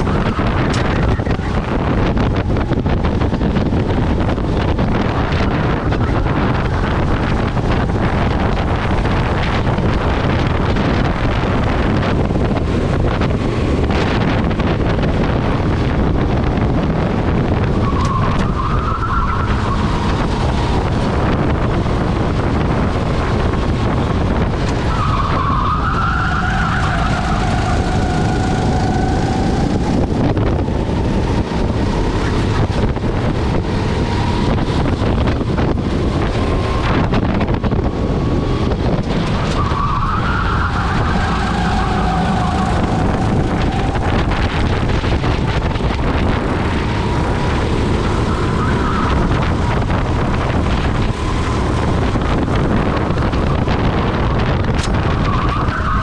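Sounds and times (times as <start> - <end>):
kart engine whine: 0.0 - 56.0
wind noise: 0.0 - 56.0.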